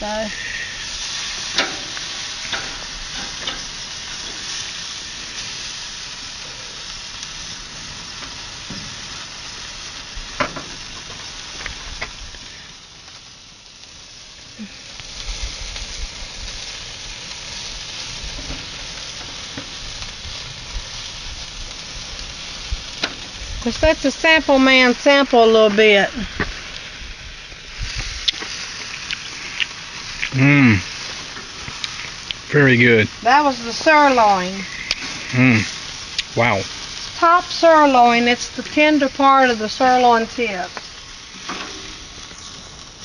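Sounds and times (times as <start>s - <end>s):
steaks sizzling on a grill: 0.0s - 43.0s.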